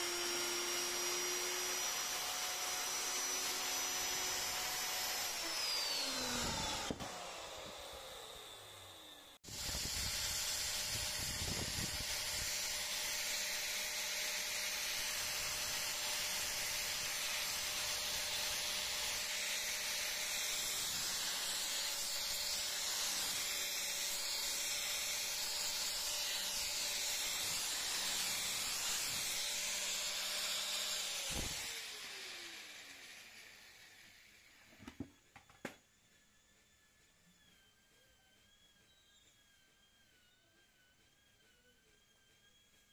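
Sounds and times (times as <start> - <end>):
angle grinder sanding wood: 0.0 - 34.5.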